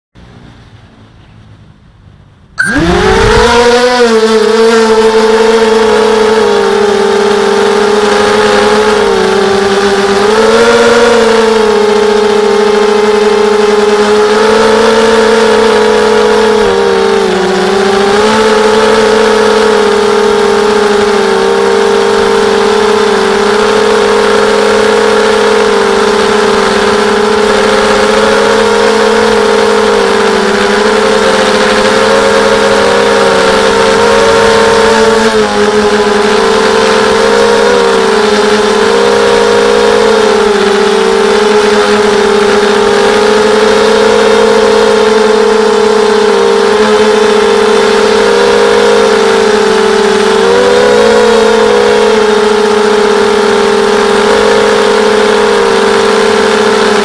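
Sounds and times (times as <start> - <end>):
drone motors whining: 2.5 - 57.0.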